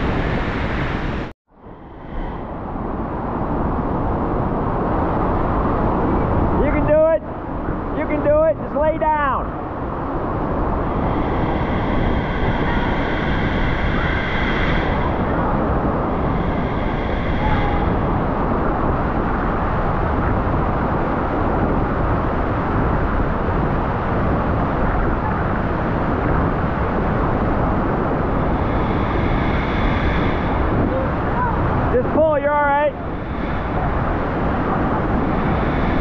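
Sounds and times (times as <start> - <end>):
faint high whine: 0.0 - 36.0.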